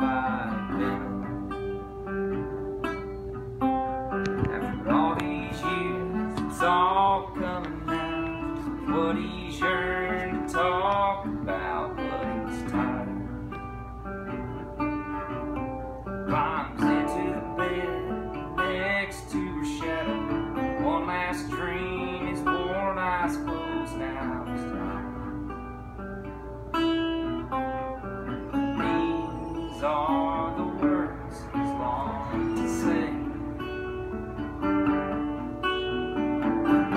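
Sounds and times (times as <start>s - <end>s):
resonator guitar playing: 0.0s - 36.9s.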